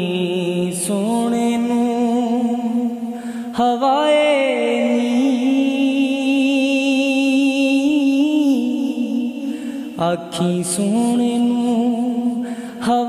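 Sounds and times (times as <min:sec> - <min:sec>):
person singing slow melody: 0:00.0 - 0:13.0.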